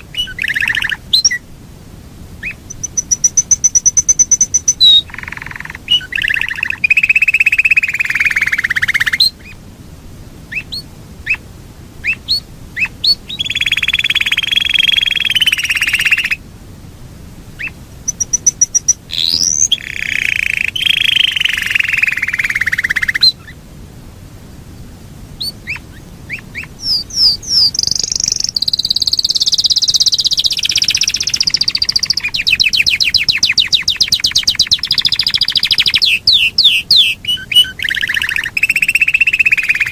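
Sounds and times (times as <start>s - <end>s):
canary singing rolls: 0.0s - 1.4s, 2.4s - 9.6s, 12.0s - 16.4s, 17.6s - 23.6s, 25.4s - 39.9s.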